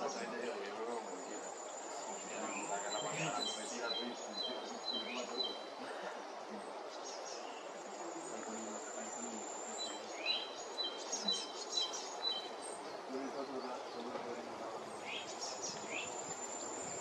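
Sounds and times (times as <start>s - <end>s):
soft background hiss: 0.0s - 17.0s.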